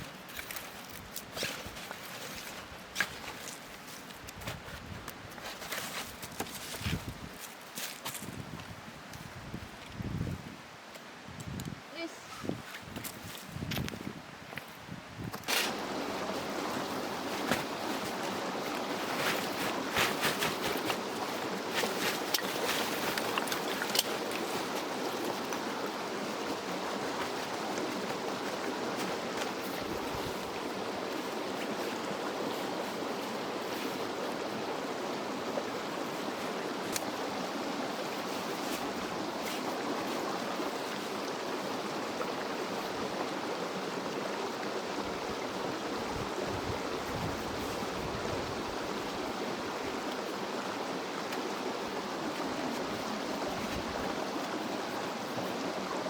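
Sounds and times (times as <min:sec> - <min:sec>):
mountain stream rushing: 0:00.0 - 0:09.3, 0:15.4 - 0:56.0.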